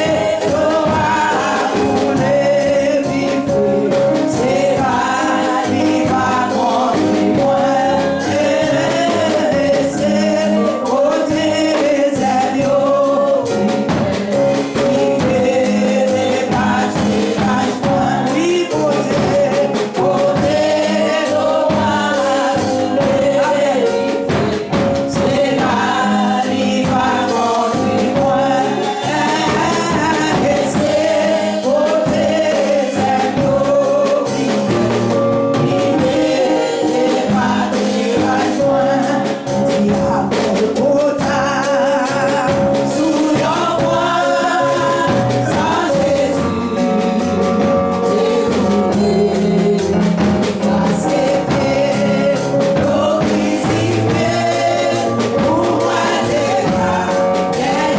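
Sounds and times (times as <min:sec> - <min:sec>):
gospel voices singing: 0:00.0 - 0:57.9.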